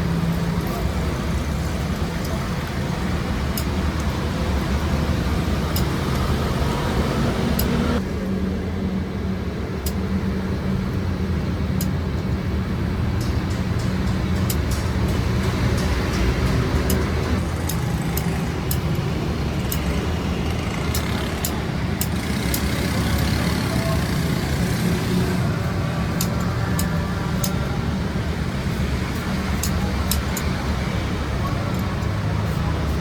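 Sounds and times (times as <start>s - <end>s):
sharp clicks and ticks: 0.0s - 8.0s, 9.8s - 10.2s, 11.6s - 33.0s.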